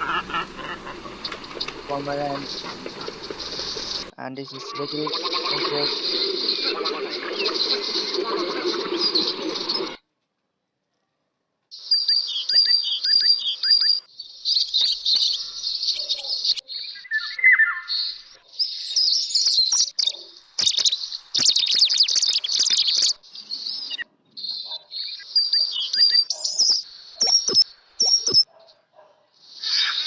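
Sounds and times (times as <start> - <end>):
bird chirping and trilling: 0.0 - 10.0, 11.8 - 28.8.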